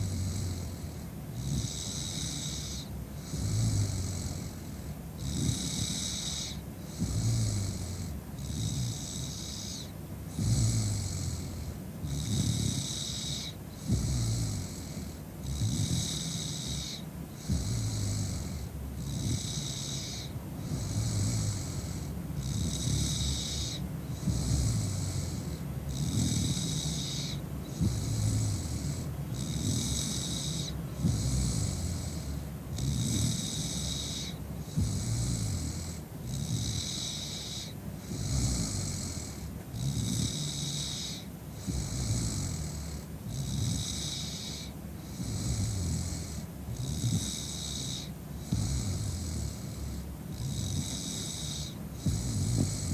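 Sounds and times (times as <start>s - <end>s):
woman snoring: 0.0s - 52.9s.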